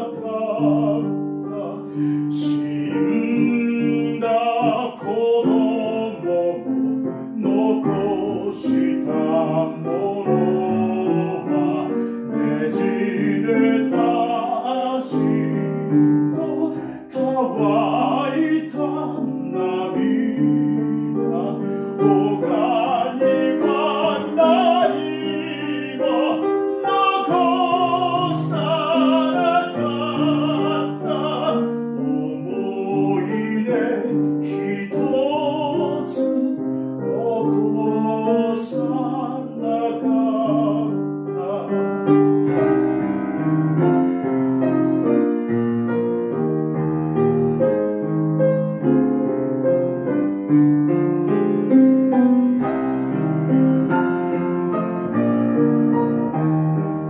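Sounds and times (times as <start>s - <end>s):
man singing opera: 0.0s - 45.2s, 50.0s - 55.2s
grand piano: 0.0s - 57.0s.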